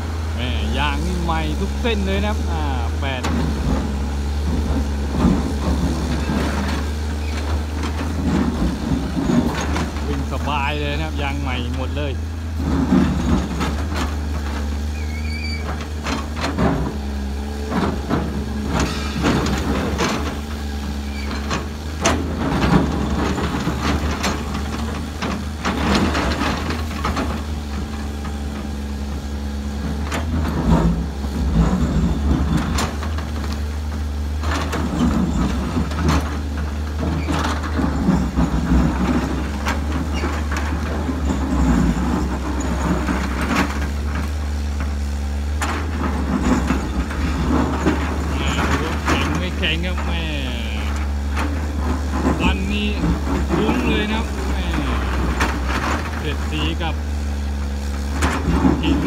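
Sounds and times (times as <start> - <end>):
excavator diesel engine under load: 0.0 - 59.0
rock and soil clattering into truck bed: 0.4 - 59.0.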